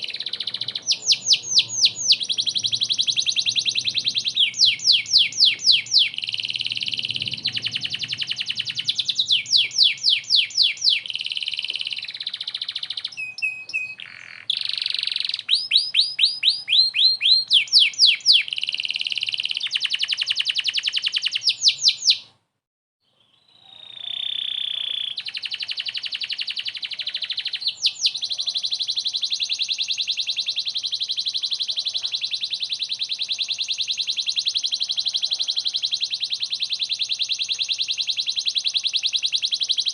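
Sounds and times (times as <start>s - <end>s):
canary singing trills: 0.0s - 22.3s, 23.1s - 39.9s.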